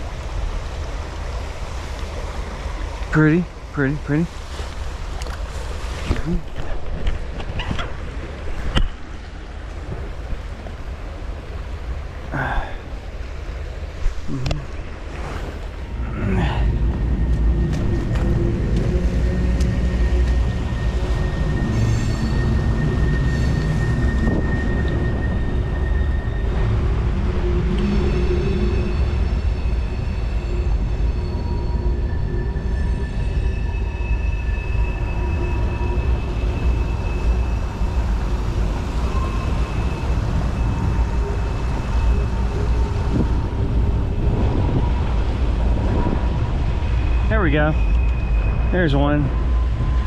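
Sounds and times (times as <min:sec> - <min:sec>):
stream rushing: 0:00.0 - 0:50.0.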